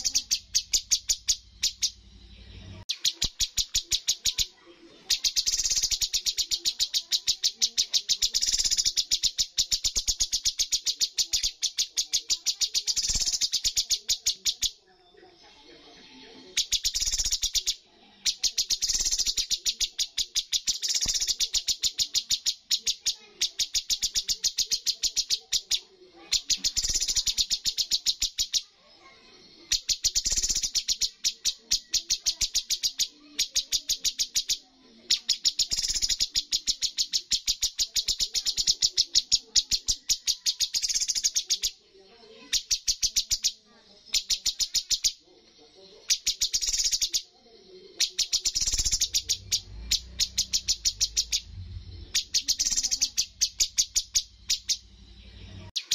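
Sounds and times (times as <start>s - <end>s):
bird singing sharp repeated notes: 0.0s - 15.4s, 16.2s - 55.9s.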